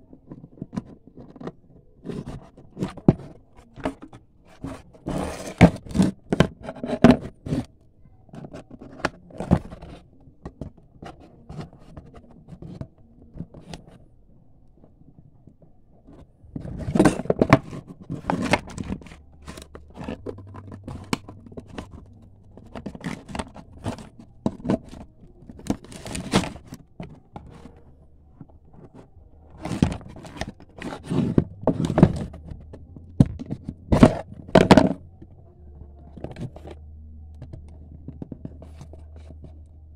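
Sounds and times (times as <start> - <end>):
packaging scraping and crinkling: 0.1 - 14.0, 16.1 - 39.9.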